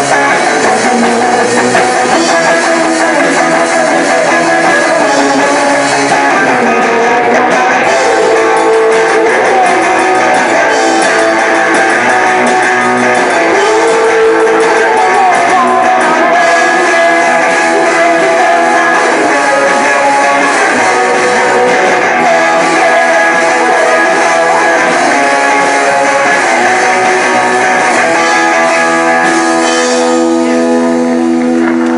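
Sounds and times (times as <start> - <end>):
distorted strummed guitar: 0.0 - 31.9.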